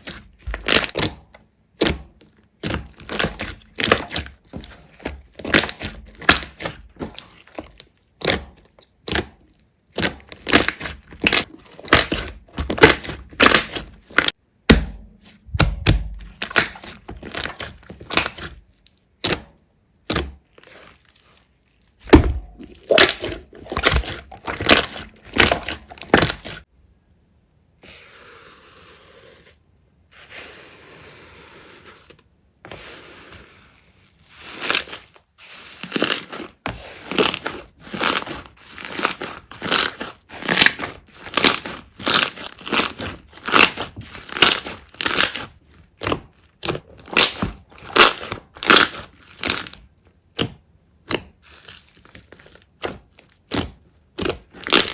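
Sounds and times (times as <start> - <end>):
slime squelching by hand: 0.0 - 26.7, 30.2 - 54.9.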